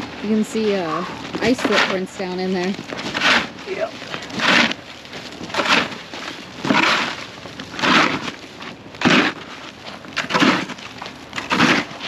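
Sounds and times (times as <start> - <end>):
icy snow crunching: 0.0 - 12.0.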